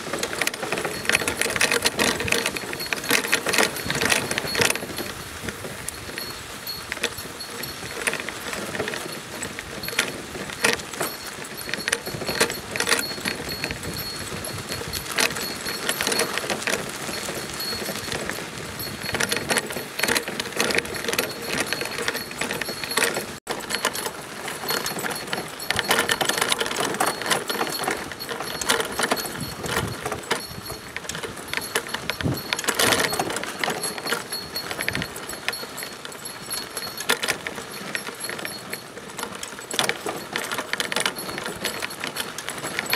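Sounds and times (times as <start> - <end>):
metal cart rattling: 0.0 - 42.9
wheels crunching on gravel: 0.0 - 42.9.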